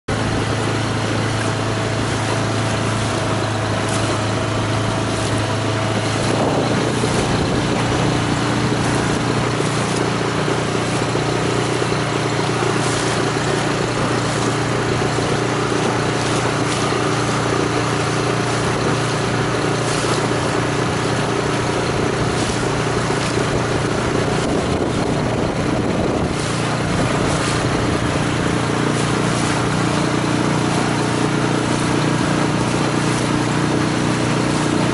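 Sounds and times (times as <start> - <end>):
outboard motor running: 0.1 - 34.9
water splashing against hull: 0.1 - 34.9
wind on microphone: 0.1 - 34.9.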